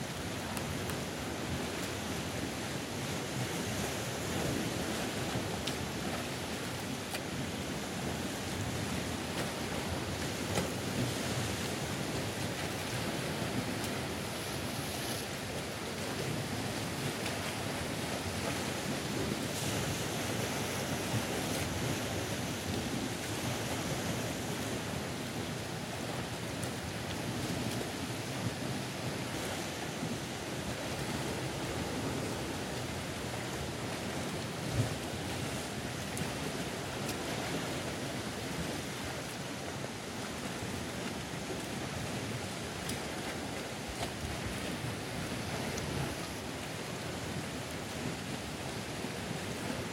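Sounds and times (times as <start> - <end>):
waves breaking on rocky shore: 0.0 - 49.9
wind: 0.0 - 49.9.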